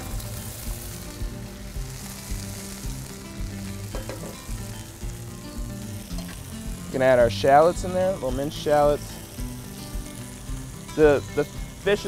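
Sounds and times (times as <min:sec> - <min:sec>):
seafood sizzling in a pan: 0:00.0 - 0:12.0.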